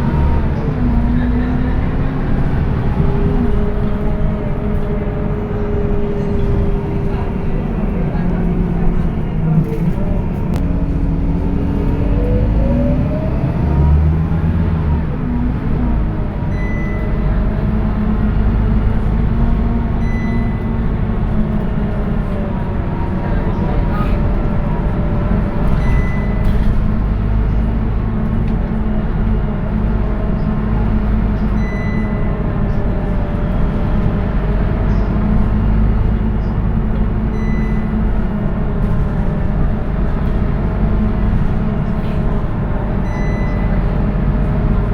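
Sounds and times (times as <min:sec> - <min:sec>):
bus engine drone: 0:00.0 - 0:44.9.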